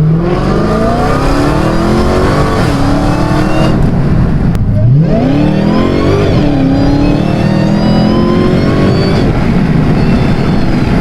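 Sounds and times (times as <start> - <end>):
car engine accelerating hard: 0.0 - 11.0
deep exhaust rumble: 0.0 - 11.0.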